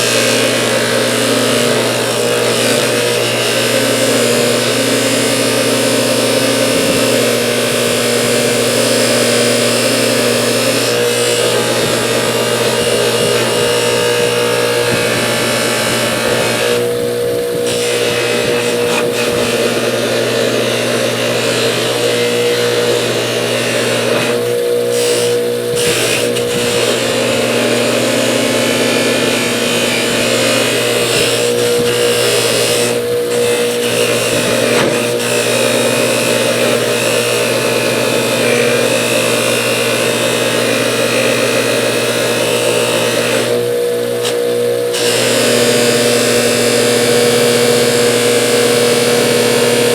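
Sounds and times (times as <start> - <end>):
polishing machine motor hum: 0.0 - 49.9.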